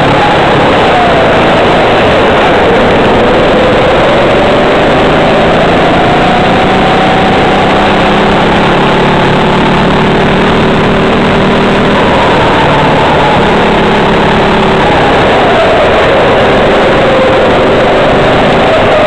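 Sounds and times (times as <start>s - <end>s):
kart engine running hard: 0.0s - 19.0s
loud rushing wind noise: 0.0s - 19.0s.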